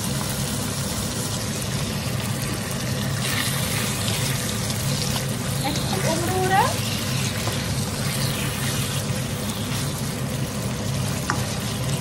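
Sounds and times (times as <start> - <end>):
chicken sizzling in hot oil: 0.0 - 12.0
range hood fan hum: 0.0 - 12.0
spatula stirring in a pan: 2.4 - 12.0.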